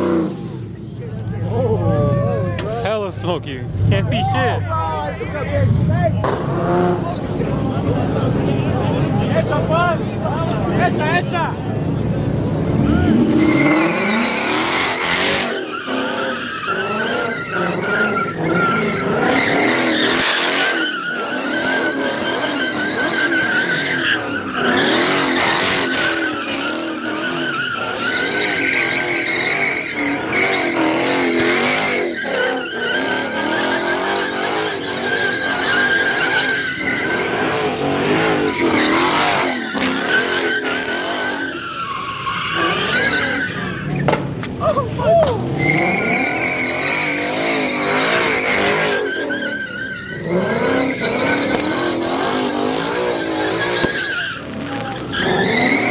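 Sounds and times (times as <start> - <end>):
car engine running hard: 0.0 - 49.0, 49.6 - 55.9
car tyres squealing: 0.0 - 55.9.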